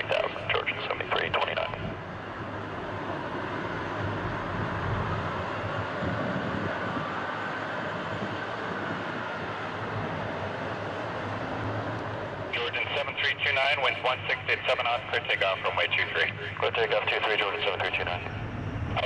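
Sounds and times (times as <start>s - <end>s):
jet engine roar with whine: 0.0s - 19.0s.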